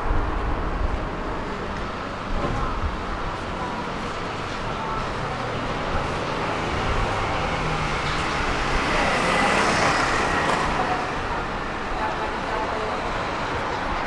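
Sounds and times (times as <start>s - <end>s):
tram running on rails: 0.0s - 14.0s.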